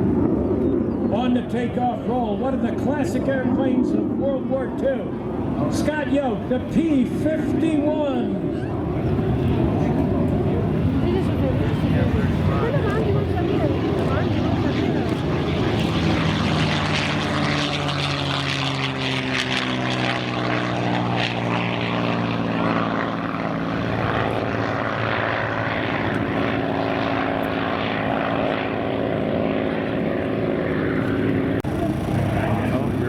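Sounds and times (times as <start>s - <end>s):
propeller aircraft engine: 0.0s - 33.0s.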